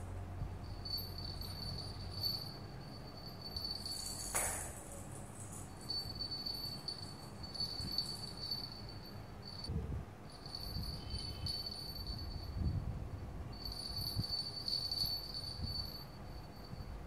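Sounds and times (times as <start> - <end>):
bell in toy ball jingling: 0.0 - 9.7, 10.3 - 12.9, 13.5 - 17.0.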